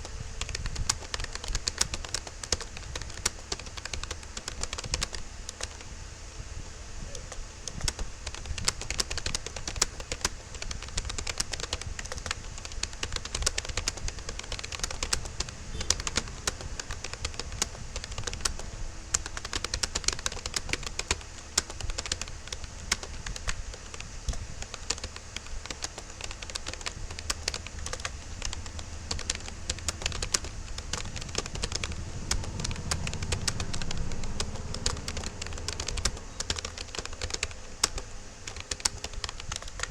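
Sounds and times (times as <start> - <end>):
fast keyboard typing: 0.0 - 5.9, 7.6 - 39.9.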